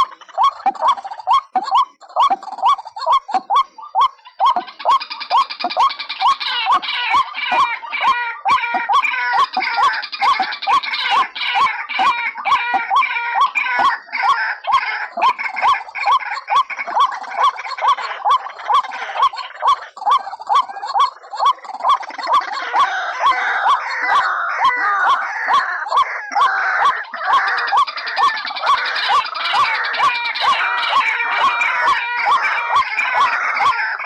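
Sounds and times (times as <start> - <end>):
birds chattering: 0.0 - 34.0
rapid rhythmic bird call: 0.0 - 34.0.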